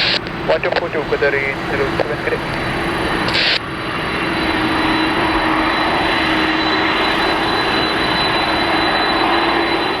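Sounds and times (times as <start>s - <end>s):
high whine: 0.0s - 10.0s
jet engines roaring: 0.0s - 10.0s.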